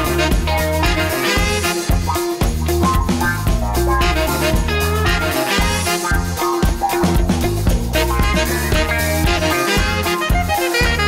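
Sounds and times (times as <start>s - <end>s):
upbeat swing music with brass: 0.0s - 11.0s.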